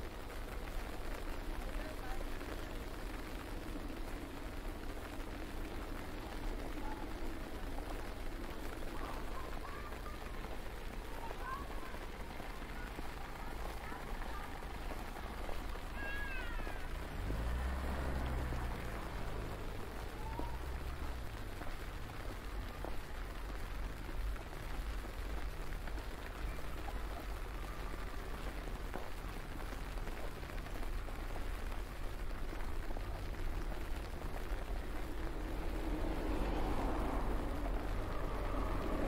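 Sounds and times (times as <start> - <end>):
low uneven rumble: 0.0 - 39.0
street noise: 0.0 - 39.0
vehicle approaching on snowy road: 0.0 - 39.0.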